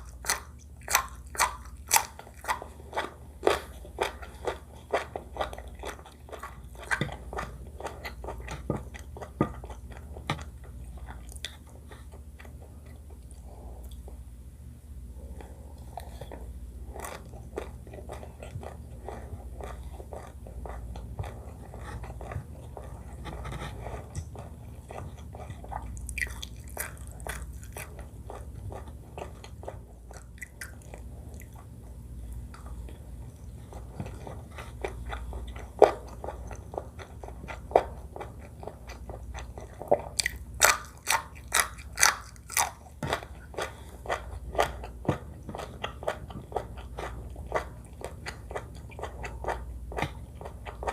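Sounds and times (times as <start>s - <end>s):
person chewing food: 0.0s - 14.3s, 15.1s - 50.9s.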